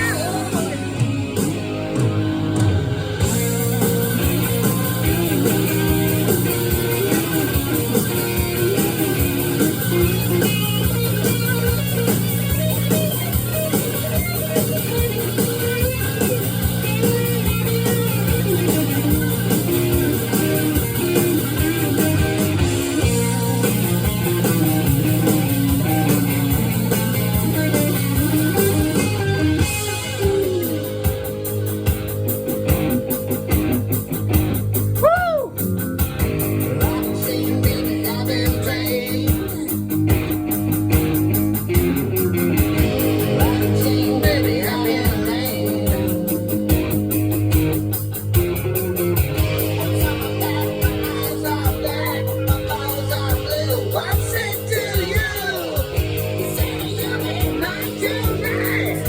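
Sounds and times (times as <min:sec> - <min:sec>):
guitar-led rock music: 0:00.0 - 0:59.0.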